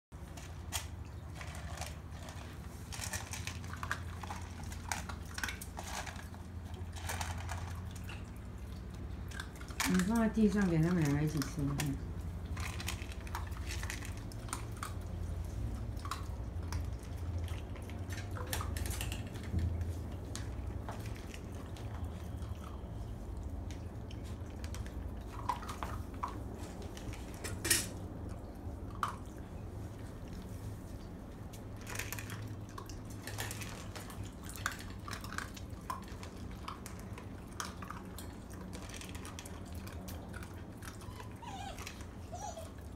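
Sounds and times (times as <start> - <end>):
dog crunching kibble: 0.2 - 27.4, 31.4 - 42.9.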